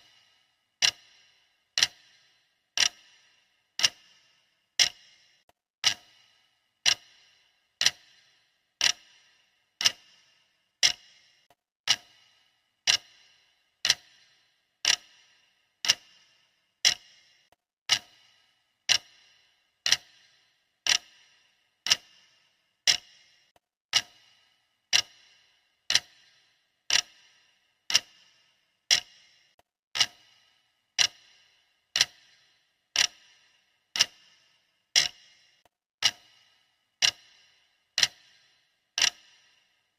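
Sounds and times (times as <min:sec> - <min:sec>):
clock ticking with high ring: 0:00.0 - 0:39.9.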